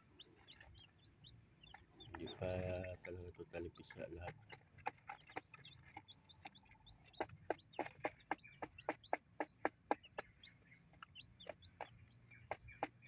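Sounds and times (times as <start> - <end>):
chicks peeping: 0.0 - 13.0
chickens pecking on cardboard: 0.1 - 13.0.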